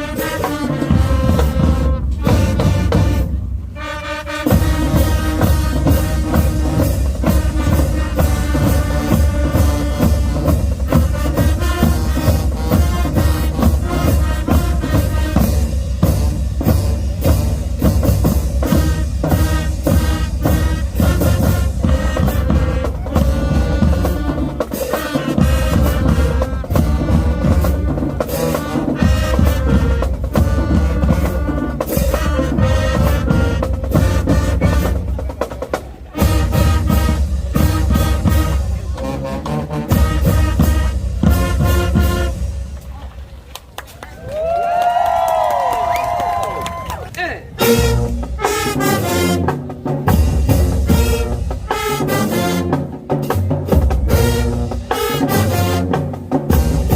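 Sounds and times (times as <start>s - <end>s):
band playing brass and drums: 0.0s - 43.5s, 44.2s - 56.9s
bass drum beat: 0.7s - 3.6s, 4.5s - 43.0s, 47.6s - 56.9s.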